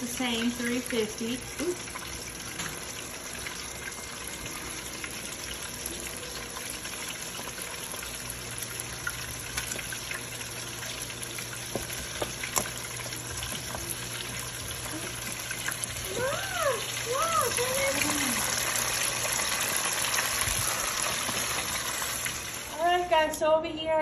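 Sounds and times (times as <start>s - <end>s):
food deep-frying in oil: 0.0s - 23.4s.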